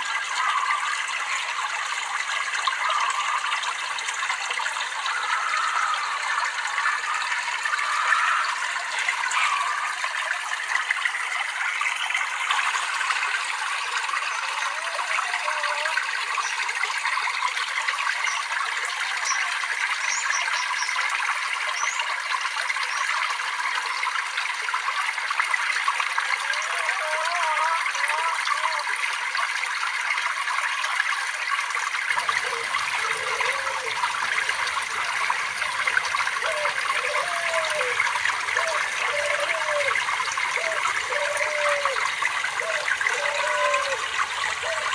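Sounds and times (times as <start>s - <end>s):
water babbling and trickling: 0.0s - 44.9s.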